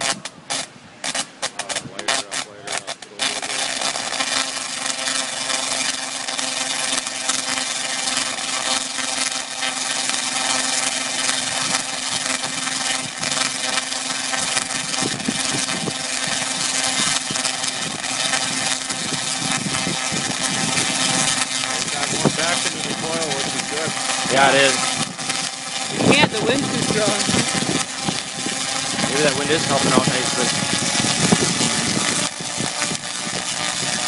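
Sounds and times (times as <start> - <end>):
wind on microphone: 0.0 - 4.2, 9.9 - 34.0
tesla coil crackling buzz: 0.0 - 34.0.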